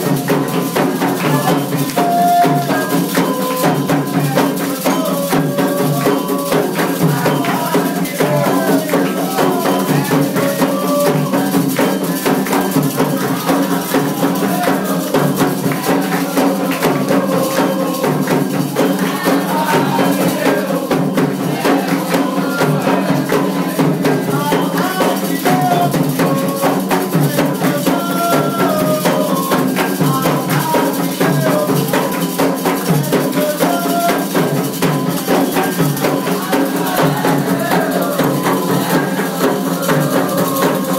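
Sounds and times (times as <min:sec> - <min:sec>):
hand drums beating: 0:00.0 - 0:40.9
rattles shaking: 0:00.0 - 0:40.9
voices singing a chant: 0:00.0 - 0:40.9.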